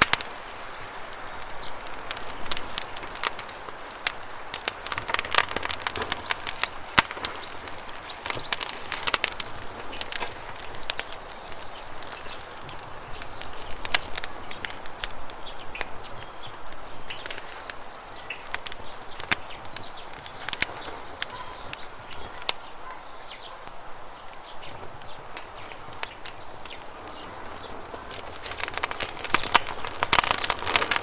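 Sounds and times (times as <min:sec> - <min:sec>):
campfire crackling and popping: 0:00.0 - 0:31.0
bird chirps: 0:05.9 - 0:31.0.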